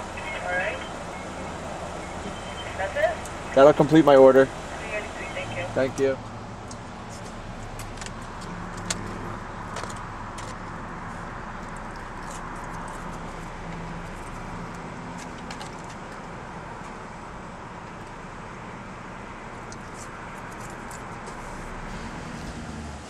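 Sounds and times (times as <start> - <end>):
car cabin engine hum: 0.0 - 23.0.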